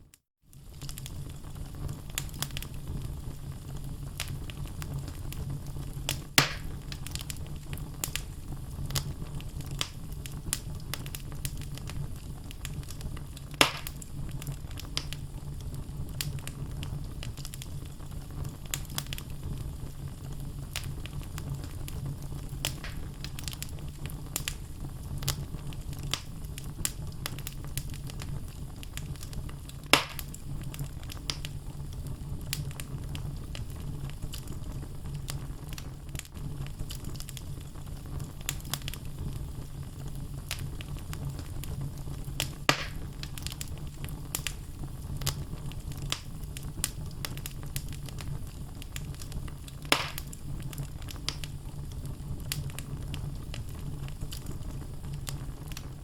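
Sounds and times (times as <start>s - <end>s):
logs burning in a fireplace: 0.1s - 56.0s
loud fire pops: 0.5s - 56.0s.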